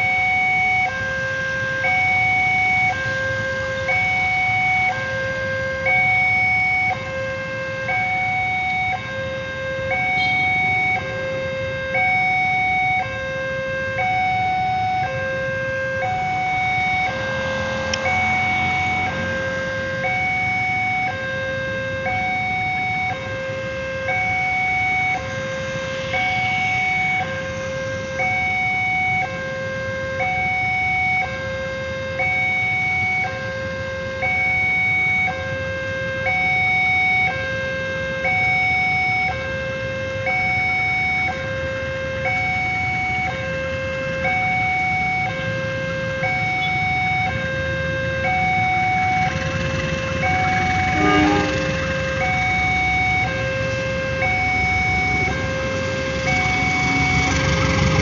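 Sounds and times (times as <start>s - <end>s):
level crossing two-tone alarm: 0.0s - 58.0s.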